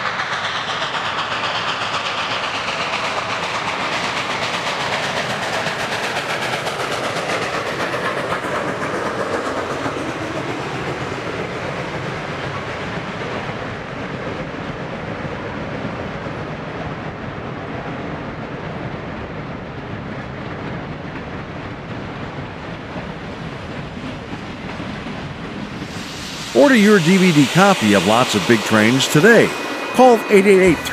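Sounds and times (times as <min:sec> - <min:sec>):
steam train running on rails: 0:00.0 - 0:30.9.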